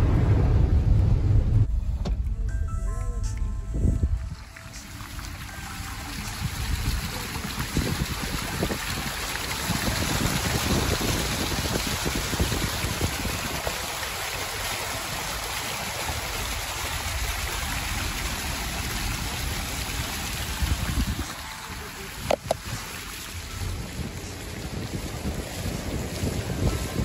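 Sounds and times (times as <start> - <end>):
floodwater rushing and splashing: 4.1 - 27.0.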